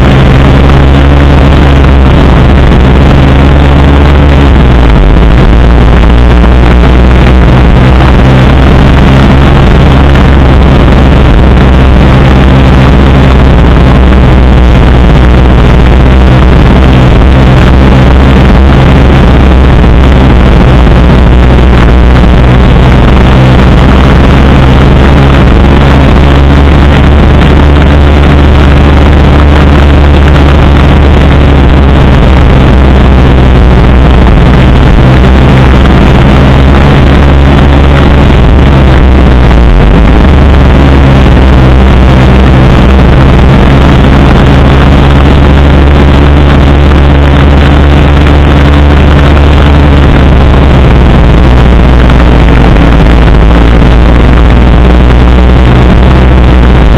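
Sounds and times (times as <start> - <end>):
dense rushing noise: 0.0 - 56.9
motor scooter engine running: 0.0 - 56.9.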